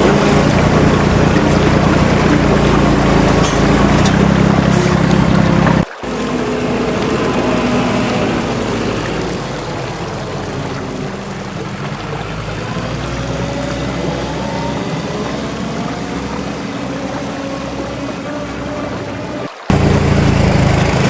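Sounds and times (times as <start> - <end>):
steady rushing noise: 0.0 - 21.0
vehicle engine running: 0.0 - 21.0.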